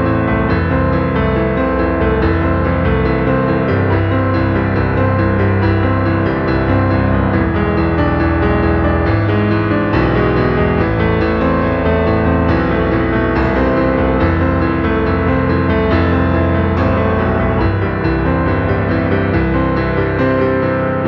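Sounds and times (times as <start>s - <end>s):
slow piano piece: 0.0s - 21.0s.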